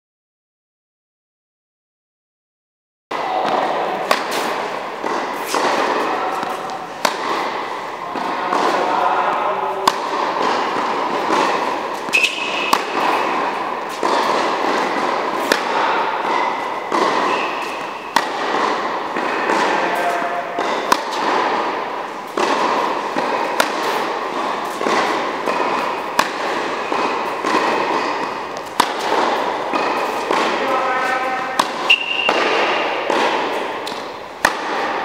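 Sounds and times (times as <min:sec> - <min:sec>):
steady background noise: 0:03.1 - 0:35.0
tennis ball hits and bounces: 0:03.2 - 0:35.0.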